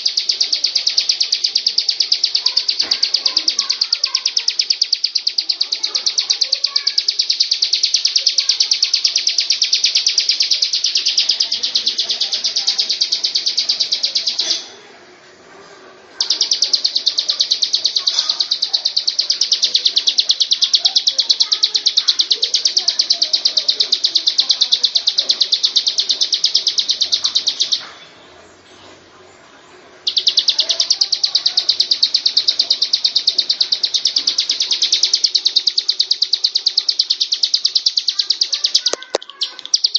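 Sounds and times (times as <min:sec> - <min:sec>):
bird singing rapid trill: 0:00.0 - 0:14.7, 0:16.2 - 0:27.9, 0:30.0 - 0:39.9.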